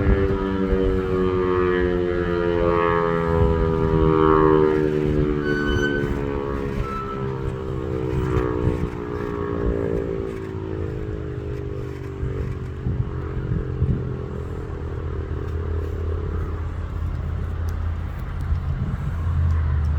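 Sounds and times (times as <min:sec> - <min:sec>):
warning siren winding down: 0:00.0 - 0:18.0
steady low hum: 0:00.0 - 0:19.9.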